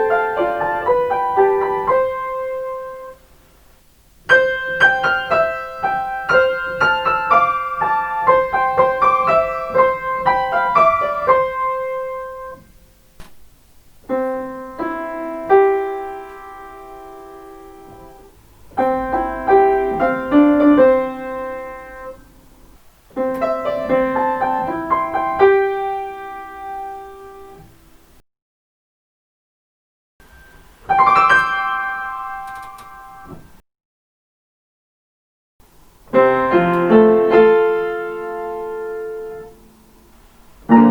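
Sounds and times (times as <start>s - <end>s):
solo piano melody: 0.0s - 3.5s, 4.2s - 12.8s, 14.0s - 28.1s, 30.2s - 33.6s, 36.1s - 40.9s.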